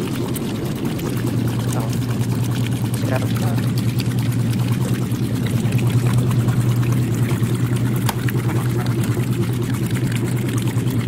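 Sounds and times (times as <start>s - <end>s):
washing machine motor hum: 0.0s - 11.0s
water sloshing in the tub: 0.0s - 11.0s.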